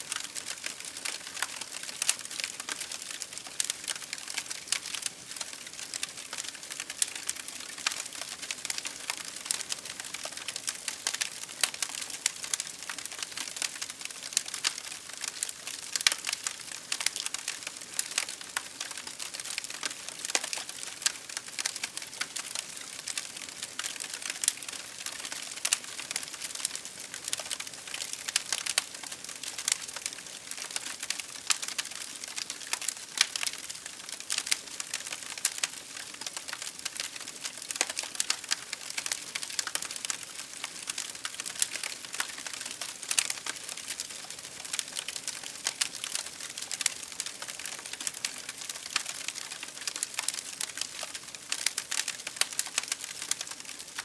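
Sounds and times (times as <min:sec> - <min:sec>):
campfire crackling: 0:00.1 - 0:54.0.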